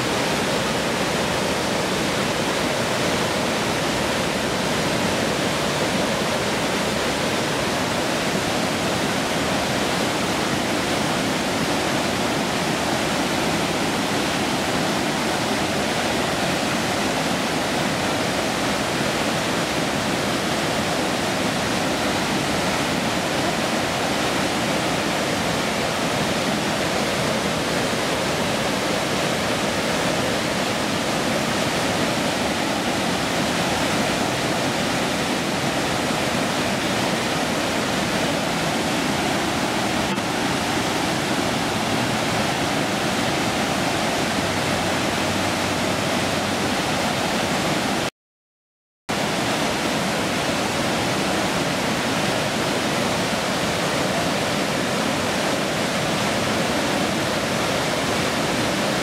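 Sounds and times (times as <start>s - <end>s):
river water rushing over rocks: 0.0s - 48.1s, 49.1s - 59.0s.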